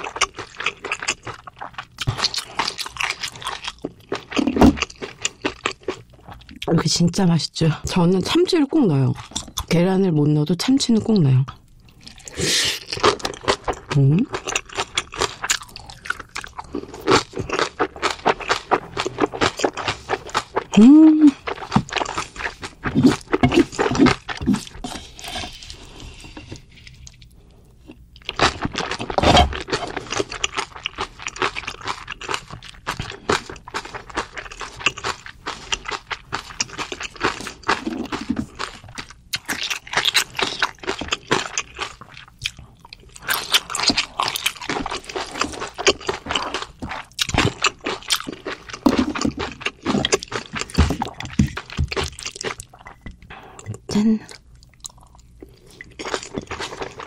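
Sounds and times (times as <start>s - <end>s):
chewing and crunching food: 0.0s - 6.8s, 7.8s - 9.8s, 11.0s - 57.0s.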